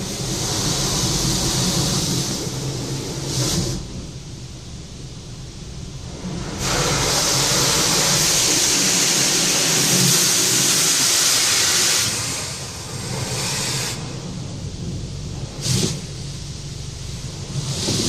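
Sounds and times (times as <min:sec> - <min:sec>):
car wash rushing hiss: 0:00.0 - 0:18.0.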